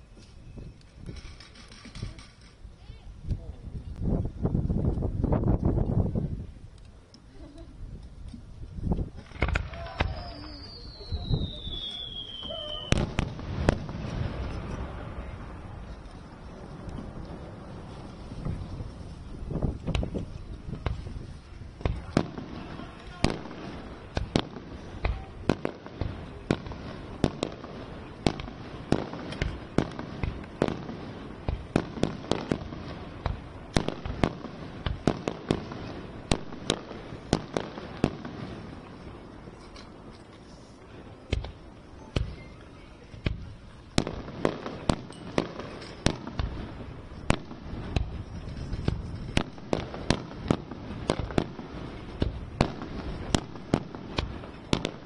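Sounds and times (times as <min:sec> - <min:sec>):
fireworks bursting with sharp bangs: 0:08.2 - 0:55.0.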